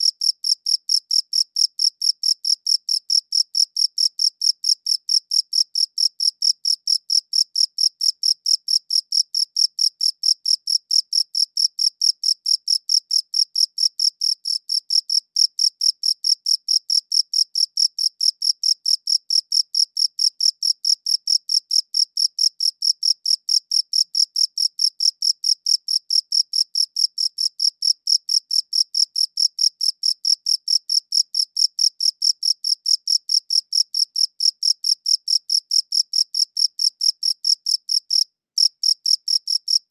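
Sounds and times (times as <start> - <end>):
cricket chirping: 0.0 - 39.8.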